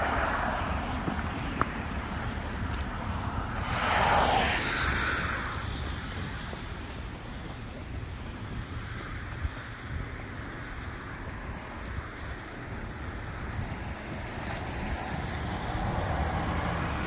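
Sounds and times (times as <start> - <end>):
cars passing on wet road: 0.0 - 17.0
wind rumble on microphone: 0.0 - 17.0.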